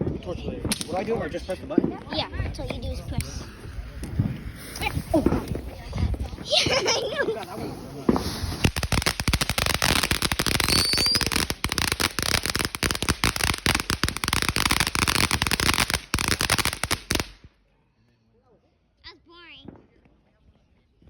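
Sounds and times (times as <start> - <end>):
firework crackling pops: 0.0 - 17.5.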